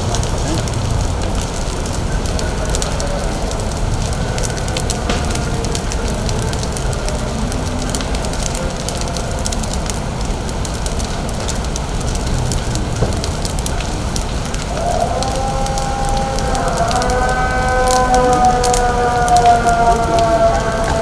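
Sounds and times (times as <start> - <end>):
steady low rumble: 0.0 - 16.8
fire crackling and popping: 0.0 - 21.0.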